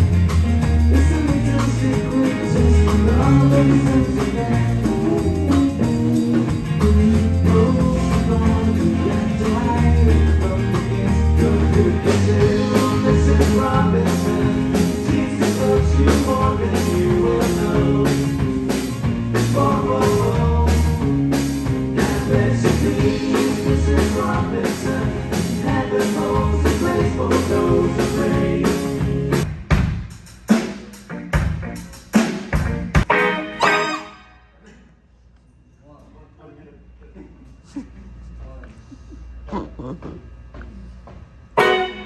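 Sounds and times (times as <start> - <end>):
live rock band playing: 0.0 - 34.4, 41.6 - 42.0.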